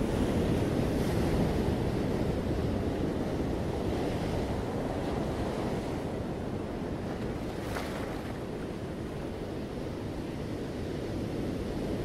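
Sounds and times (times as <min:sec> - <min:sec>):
sea surf on rocky shore: 0:00.0 - 0:12.0.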